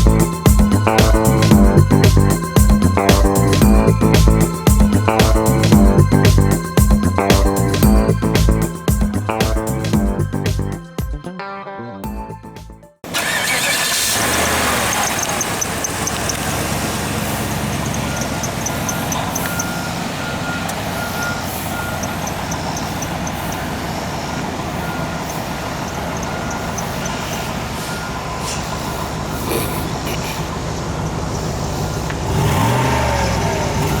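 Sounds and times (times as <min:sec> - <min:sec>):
car engine starting and idling: 0:00.0 - 0:10.8, 0:13.0 - 0:34.0.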